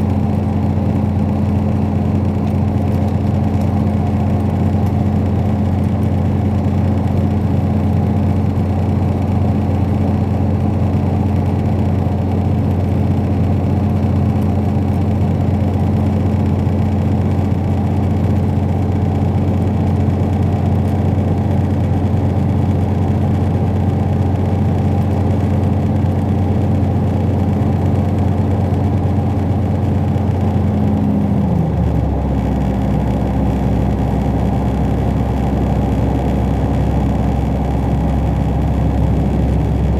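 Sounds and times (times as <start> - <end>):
diesel train engine humming: 0.0 - 39.9.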